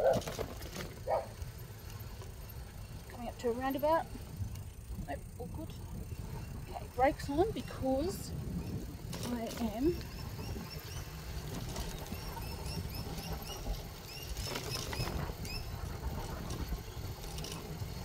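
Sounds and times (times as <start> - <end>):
wind and road rumble: 0.0 - 18.0.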